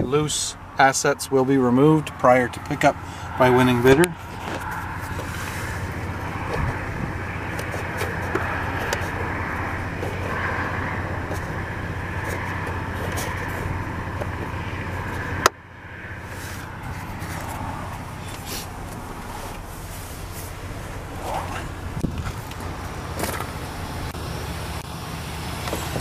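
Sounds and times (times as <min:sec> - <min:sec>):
pickup engine idling: 0:01.7 - 0:26.0.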